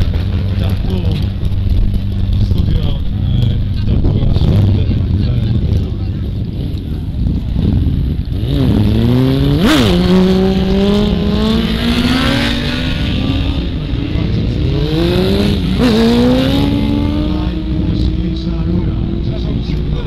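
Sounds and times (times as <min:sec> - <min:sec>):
motorcycle engines accelerating: 0:00.0 - 0:20.0.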